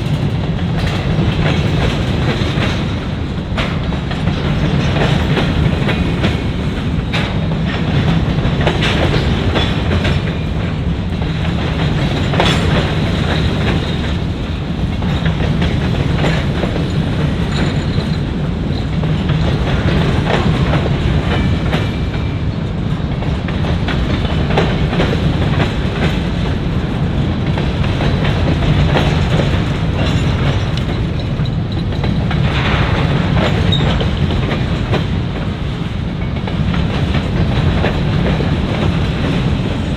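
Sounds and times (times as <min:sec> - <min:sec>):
train cars rumbling: 0:00.0 - 0:39.9
wheels clacking over rail joints: 0:00.0 - 0:39.9.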